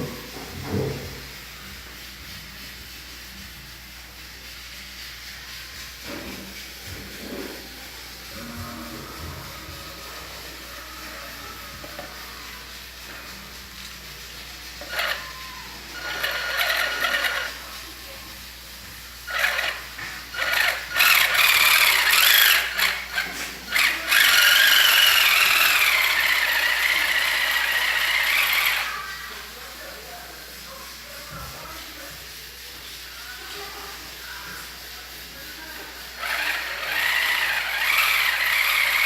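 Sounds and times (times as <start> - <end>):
small electric motor whining: 0.0 - 39.0.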